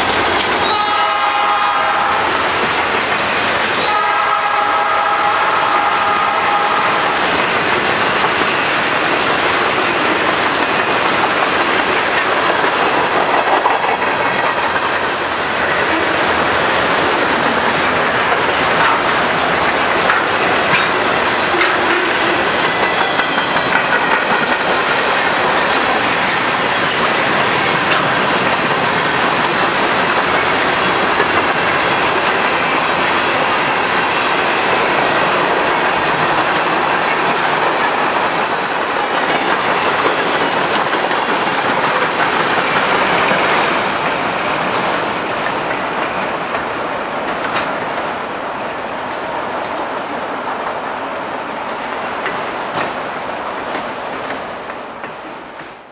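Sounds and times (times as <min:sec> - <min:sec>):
freight train wheels clattering: 0:00.0 - 0:48.3.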